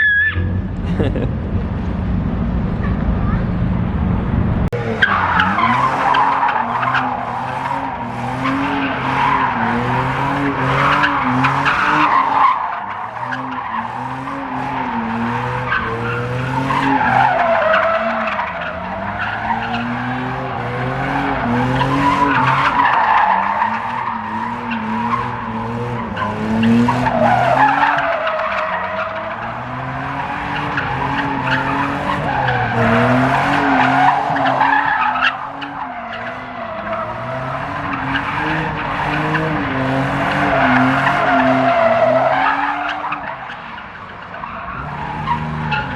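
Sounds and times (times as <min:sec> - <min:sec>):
engine revving high: 0:04.8 - 0:28.2, 0:29.0 - 0:43.2.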